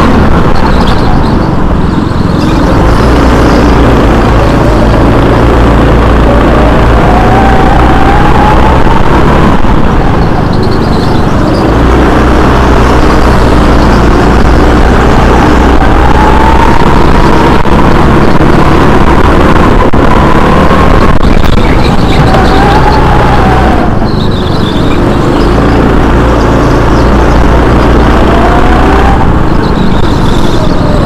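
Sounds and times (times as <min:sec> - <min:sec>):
go-kart engine running hard: 0:00.0 - 0:31.0.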